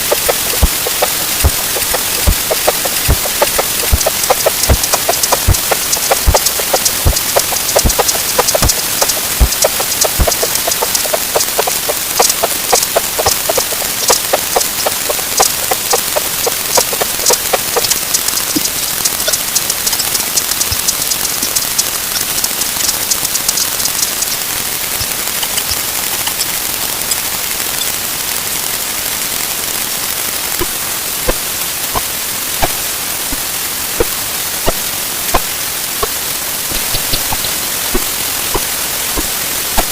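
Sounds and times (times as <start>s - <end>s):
sharp clicks: 0.0s - 27.2s, 32.0s - 33.4s, 34.0s - 39.9s
sped-up timer hiss: 0.0s - 39.9s.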